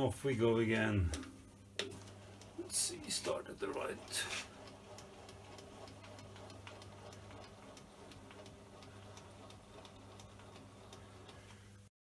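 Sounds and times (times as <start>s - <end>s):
milling machine humming: 0.0s - 11.8s
light regular ticking: 0.6s - 11.9s.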